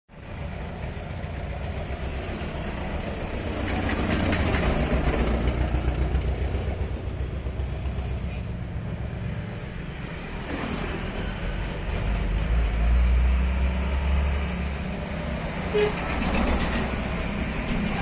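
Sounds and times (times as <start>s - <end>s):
road traffic rumble: 0.1s - 18.0s.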